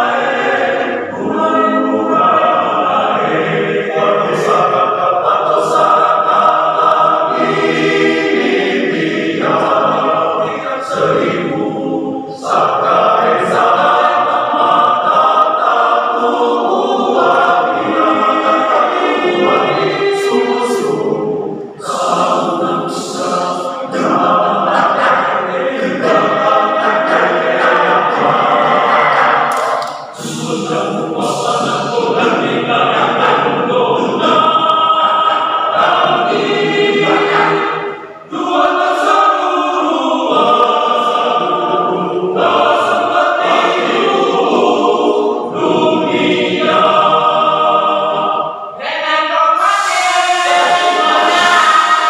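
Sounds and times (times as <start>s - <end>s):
men's choir singing: 0.0s - 52.0s.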